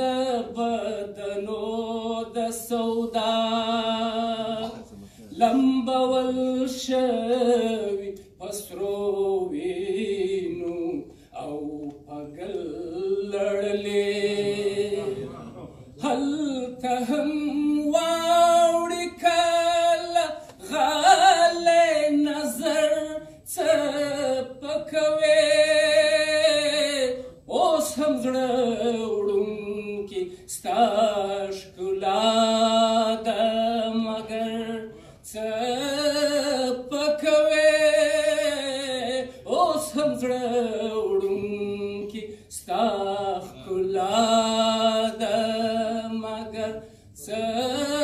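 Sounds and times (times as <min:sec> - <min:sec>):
man singing unaccompanied: 0:00.0 - 0:15.4, 0:16.0 - 0:48.0.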